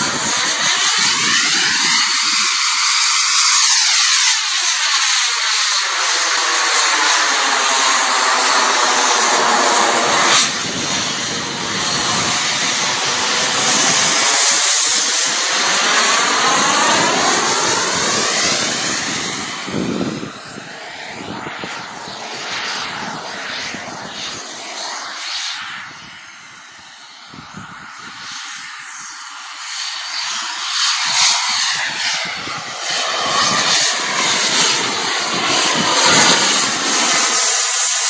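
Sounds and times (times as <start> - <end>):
fighter jet flying past: 0.0 - 38.0.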